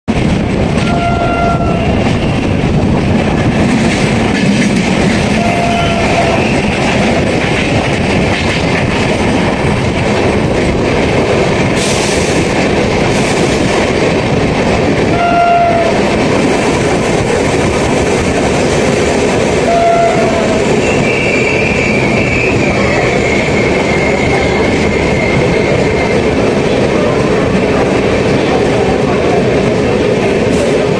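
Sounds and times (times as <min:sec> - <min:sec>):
freight train wheels on rails: 0:00.1 - 0:30.9.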